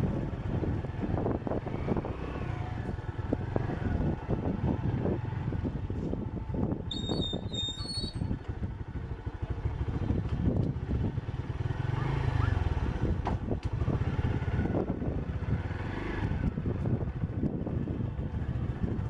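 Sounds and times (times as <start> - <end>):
wind buffeting microphone: 0.0 - 9.1, 12.7 - 19.0.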